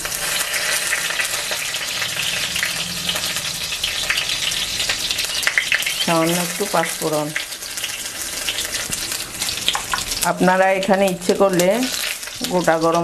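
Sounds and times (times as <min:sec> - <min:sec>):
leaves sizzling in hot oil: 0:00.0 - 0:13.0.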